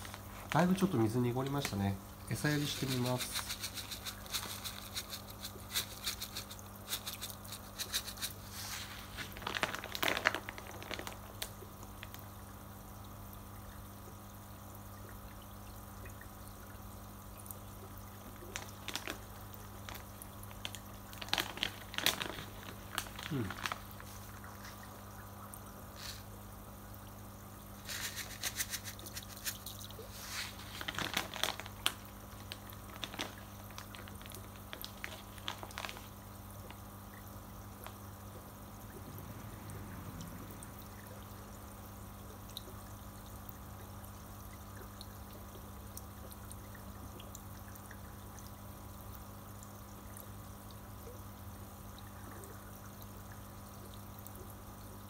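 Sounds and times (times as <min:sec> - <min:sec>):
small splashes and clicks: 0:00.0 - 0:13.9, 0:14.6 - 0:26.3, 0:27.7 - 0:54.7
low pump hum: 0:00.0 - 0:55.0
water trickling into tank: 0:00.0 - 0:55.0.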